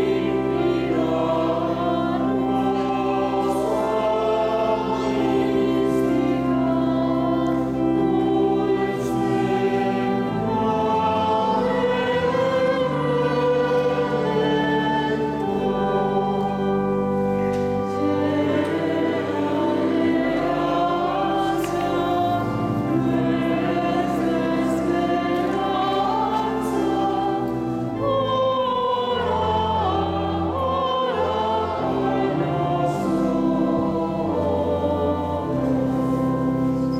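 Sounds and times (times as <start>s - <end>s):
choir singing a hymn: 0.0s - 36.9s.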